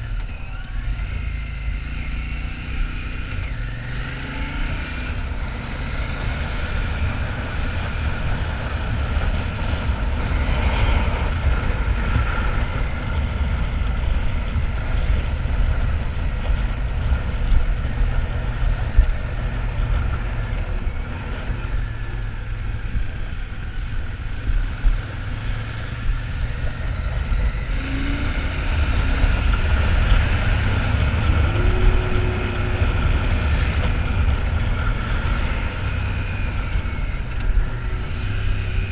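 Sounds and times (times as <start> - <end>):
motorcycle engine running: 0.0 - 38.9
wind on microphone: 3.4 - 38.9.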